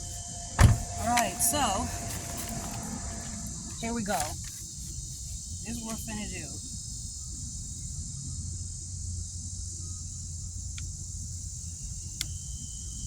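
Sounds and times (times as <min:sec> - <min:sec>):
insect chirring: 0:00.0 - 0:13.0
low steady rumble: 0:00.0 - 0:13.0.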